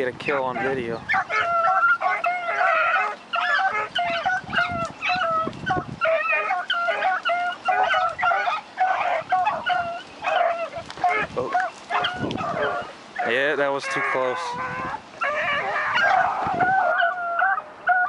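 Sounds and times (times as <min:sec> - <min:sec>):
hounds baying: 0:00.2 - 0:18.0.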